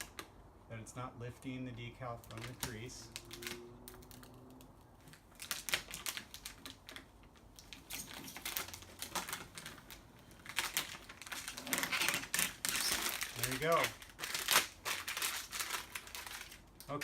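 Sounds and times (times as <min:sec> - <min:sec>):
tape peeling off crackling: 0:02.2 - 0:17.0.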